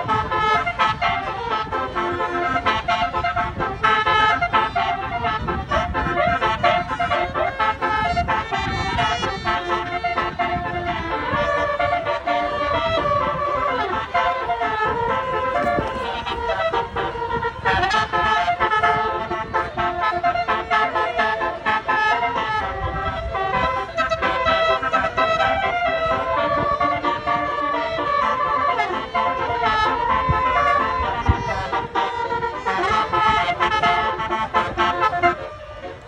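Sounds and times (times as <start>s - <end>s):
musical vehicle horn jingle: 0.0s - 36.0s.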